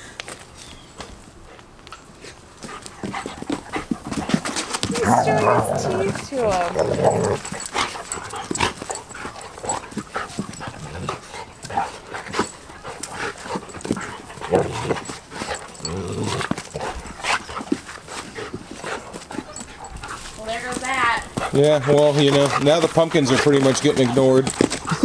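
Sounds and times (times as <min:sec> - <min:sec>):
paws scuffling: 0:00.3 - 0:25.0
dogs growling and snarling: 0:02.7 - 0:25.0.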